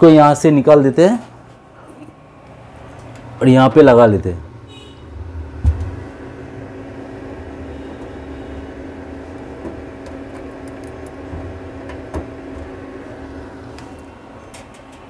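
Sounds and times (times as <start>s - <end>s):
computer fans humming: 0.0s - 15.0s.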